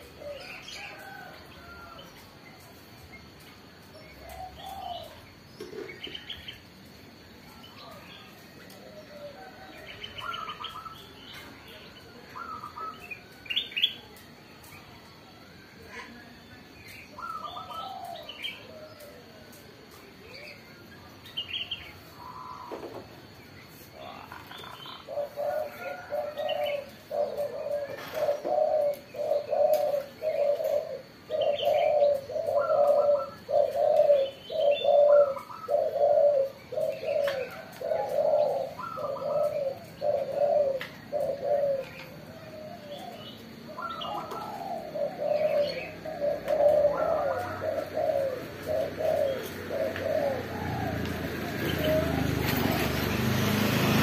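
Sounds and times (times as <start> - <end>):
birds chirping: 0.0 - 54.0
doves cooing: 0.0 - 54.0.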